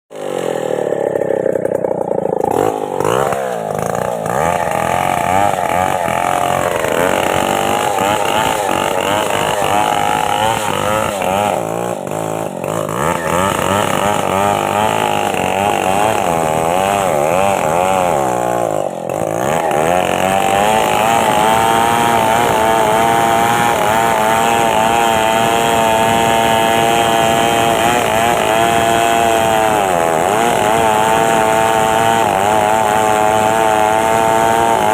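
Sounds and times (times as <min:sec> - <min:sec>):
chainsaw engine revving: 0:00.1 - 0:34.9.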